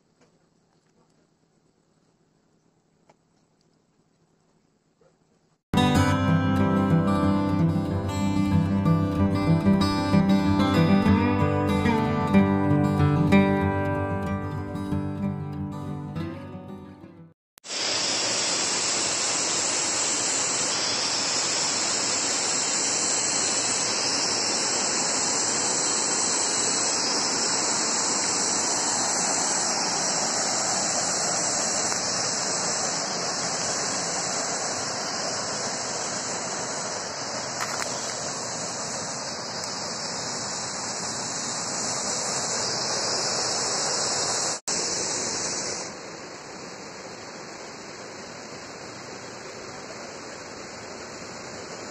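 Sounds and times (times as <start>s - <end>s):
rushing hiss of forest ambience: 0.0s - 13.4s, 17.6s - 51.9s.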